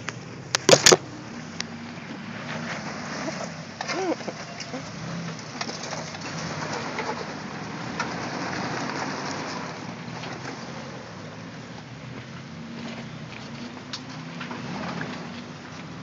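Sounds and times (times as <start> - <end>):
tyres grinding over gravel: 0.0 - 16.0.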